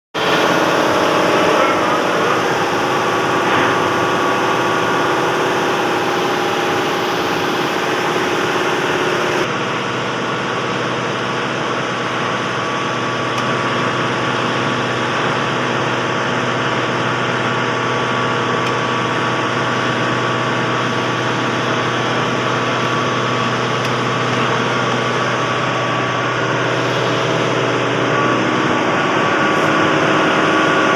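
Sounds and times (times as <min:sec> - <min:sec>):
compressor running: 0:00.1 - 0:30.9.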